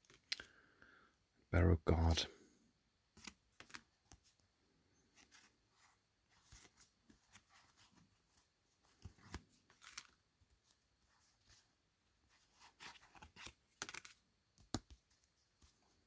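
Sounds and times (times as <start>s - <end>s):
cardboard cards rustling and flipping: 0.0s - 0.6s, 3.1s - 16.0s.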